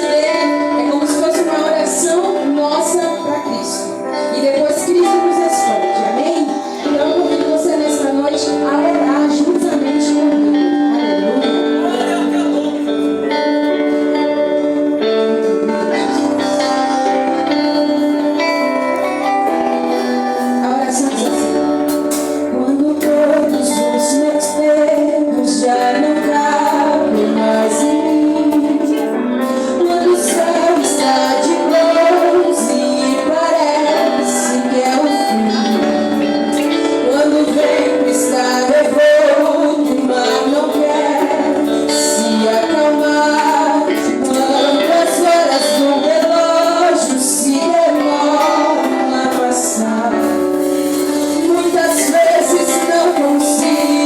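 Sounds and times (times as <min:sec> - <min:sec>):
instrumental accompaniment: 0:00.0 - 0:54.0
woman singing gospel song: 0:00.0 - 0:54.0.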